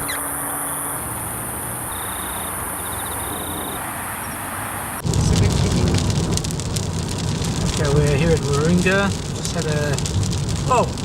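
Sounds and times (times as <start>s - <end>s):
car engine rumble: 0.0s - 11.0s
rain drops ticking on a car: 0.0s - 11.0s
steady rushing noise: 0.0s - 11.0s.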